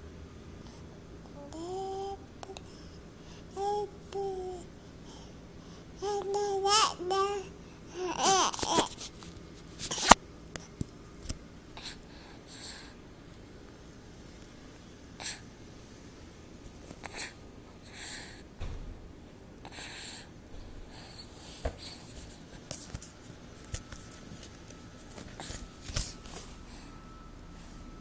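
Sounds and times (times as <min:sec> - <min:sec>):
faint room noise: 0:00.0 - 0:28.0.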